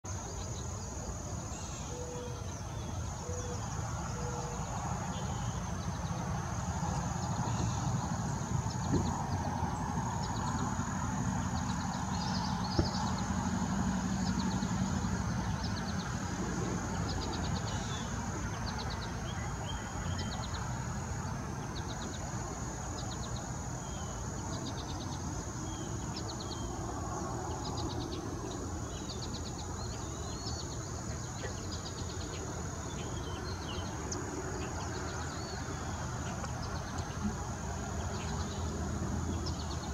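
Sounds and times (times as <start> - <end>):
high insect trill: 0.1 - 39.9.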